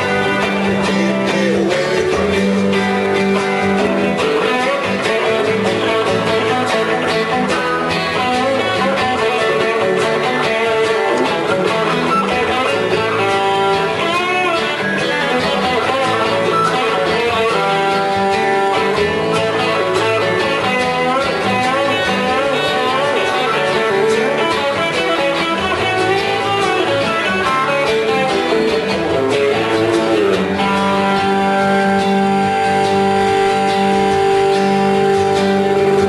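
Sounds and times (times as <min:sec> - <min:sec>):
electric guitar lead lines: 0:00.0 - 0:36.0
strummed rhythm guitar: 0:00.0 - 0:36.0.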